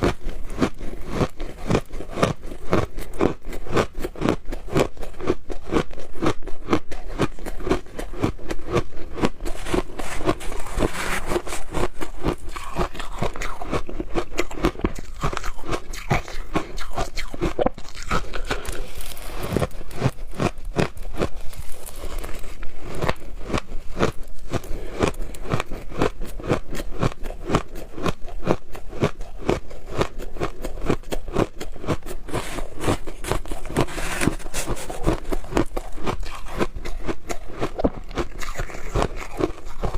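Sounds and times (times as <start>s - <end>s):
crunching shaved ice: 0.0s - 39.9s.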